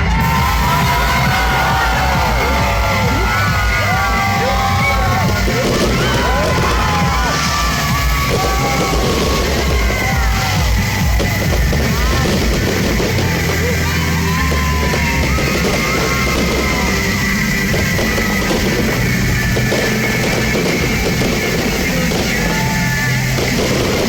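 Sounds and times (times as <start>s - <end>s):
loud rock music with drums: 0.0s - 24.0s.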